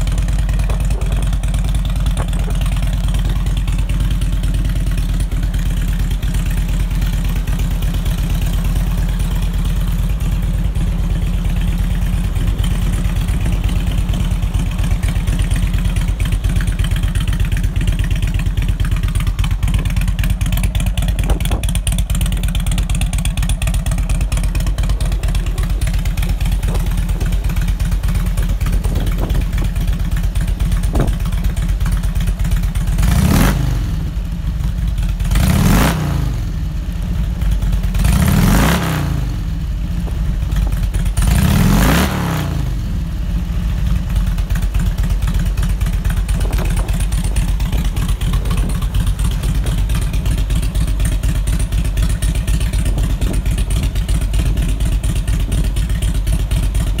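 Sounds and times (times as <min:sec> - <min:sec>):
motorcycle engine idling: 0:00.0 - 0:57.0
motorcycle throttle blips: 0:00.0 - 0:57.0.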